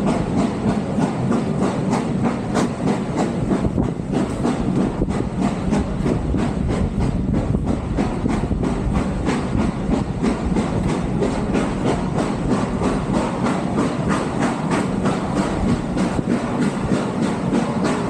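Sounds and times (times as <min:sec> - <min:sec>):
moving train noise: 0:00.0 - 0:18.0
steam train chuffing: 0:00.0 - 0:18.0.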